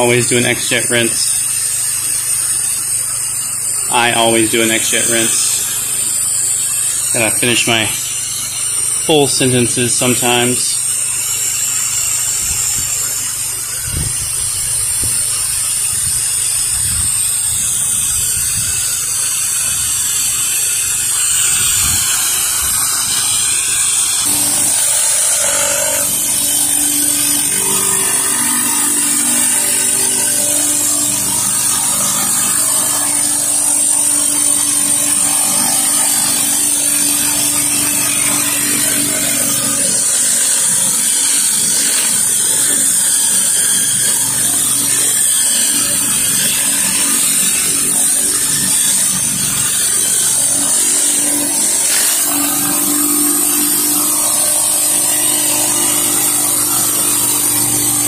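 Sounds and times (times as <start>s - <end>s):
pressure washer engine and pump hum: 0.0s - 58.0s.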